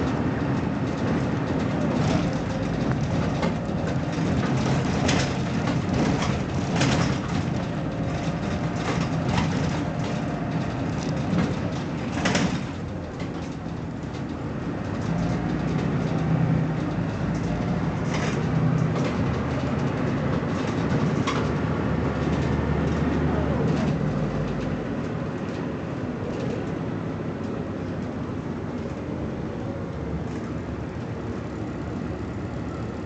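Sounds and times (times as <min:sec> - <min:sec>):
sharp clicks and rattles: 0:00.0 - 0:26.8
bus diesel engine running: 0:00.0 - 0:33.0.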